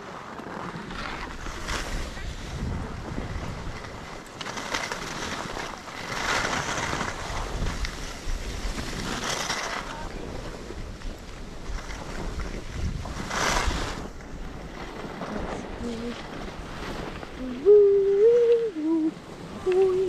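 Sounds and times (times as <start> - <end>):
ski edges scraping over snow: 0.0 - 17.6
wind rushing over microphone: 0.8 - 20.0.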